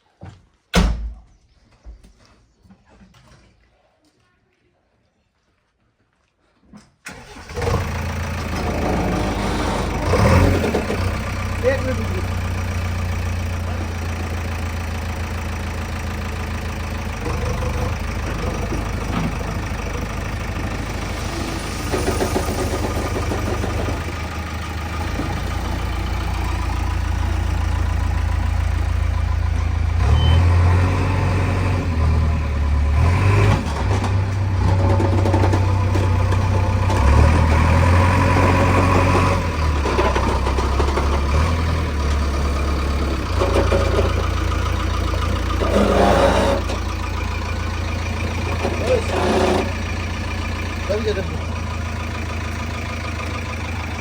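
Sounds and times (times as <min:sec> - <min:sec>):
diesel engine idling and revving: 0:07.1 - 0:54.0.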